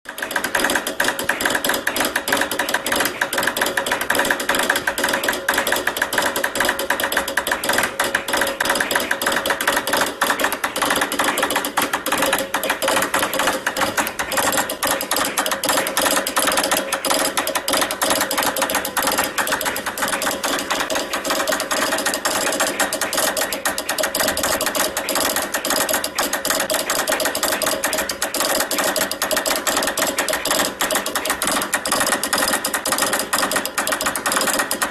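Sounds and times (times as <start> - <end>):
telegraph key clicking morse code: 0.1 - 34.9.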